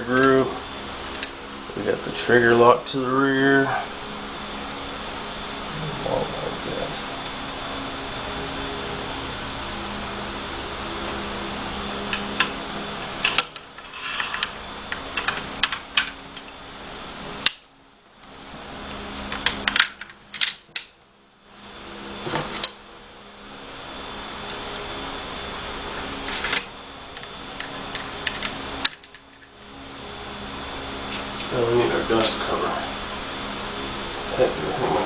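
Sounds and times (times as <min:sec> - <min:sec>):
background hum: 0:00.0 - 0:35.0.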